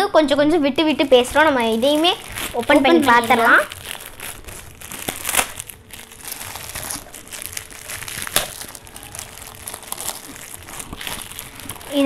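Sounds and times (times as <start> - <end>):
plastic bag crinkling: 0.8 - 12.0.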